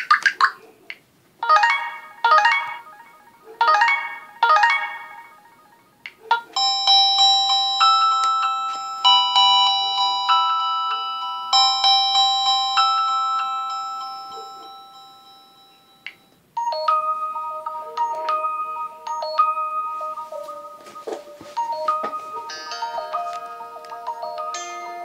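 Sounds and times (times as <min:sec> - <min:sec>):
chiming phone ringtone: 0:01.4 - 0:05.9, 0:06.6 - 0:25.0.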